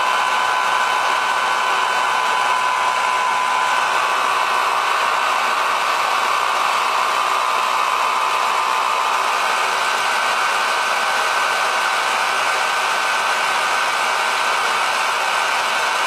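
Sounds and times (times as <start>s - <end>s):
hair dryer blowing whir: 0.0s - 16.0s.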